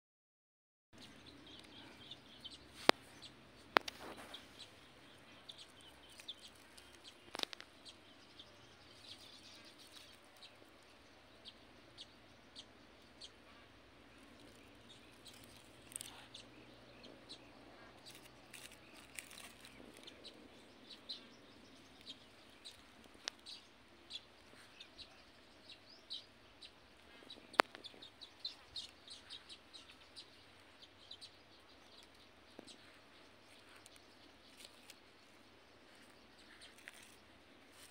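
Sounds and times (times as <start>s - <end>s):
birds chirping: 1.0s - 37.9s.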